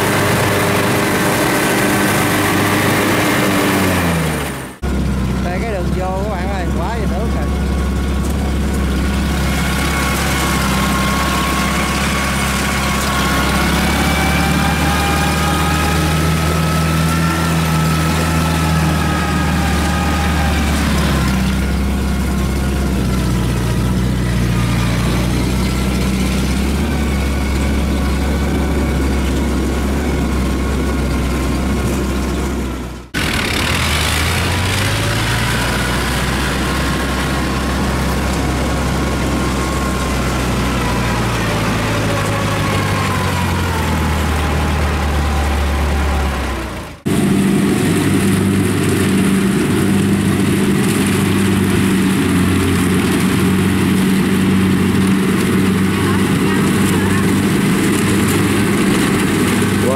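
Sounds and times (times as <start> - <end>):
engine rising in pitch: 0.0 - 59.9
farm machine engine running: 0.0 - 59.9.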